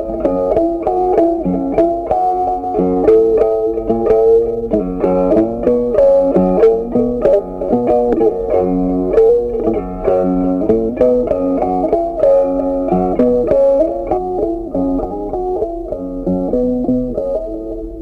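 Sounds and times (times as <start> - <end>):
plucked guitar melody: 0.0 - 18.0.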